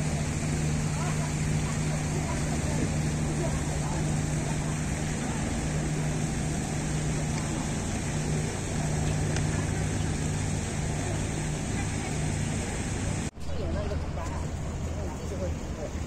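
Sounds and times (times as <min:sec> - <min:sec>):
boat engine droning: 0:00.0 - 0:16.0
choppy water: 0:00.0 - 0:16.0
wind: 0:00.0 - 0:16.0.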